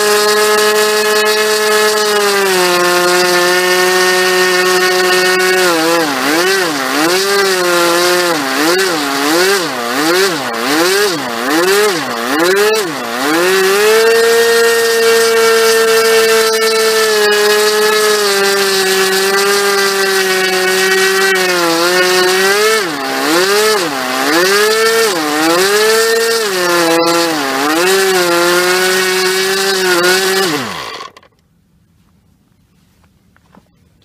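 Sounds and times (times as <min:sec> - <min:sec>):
model aircraft engine running: 0:00.0 - 0:31.3.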